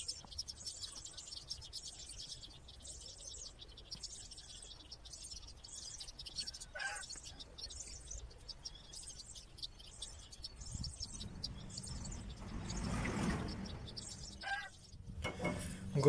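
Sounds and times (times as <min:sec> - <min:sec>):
lower bird call: 0:00.0 - 0:15.9.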